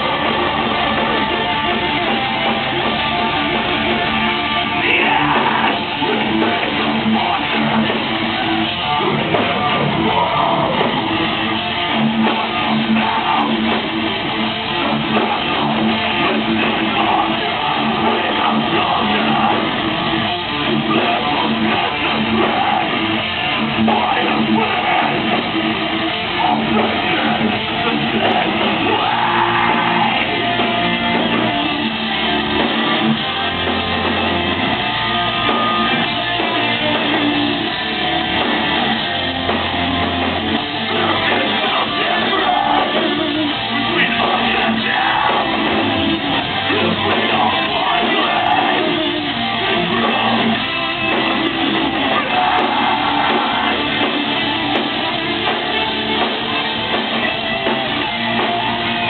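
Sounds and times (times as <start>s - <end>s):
long low bass notes: 0.0s - 59.0s
metal band playing live: 0.0s - 59.0s.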